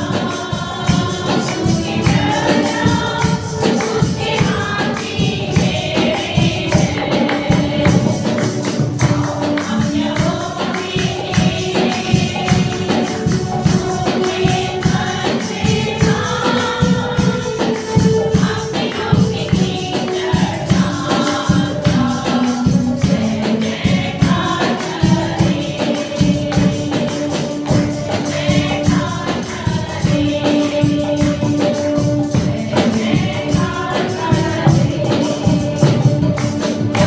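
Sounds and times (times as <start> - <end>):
rhythmic percussion: 0.0 - 37.0
women's choir singing: 0.0 - 37.0.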